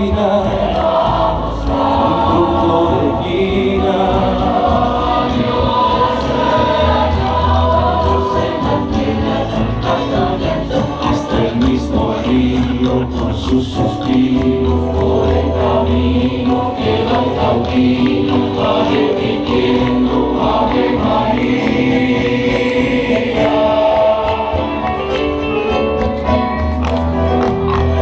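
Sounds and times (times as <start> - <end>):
choir singing a hymn: 0.0 - 25.2
instrumental backing music: 0.0 - 28.0.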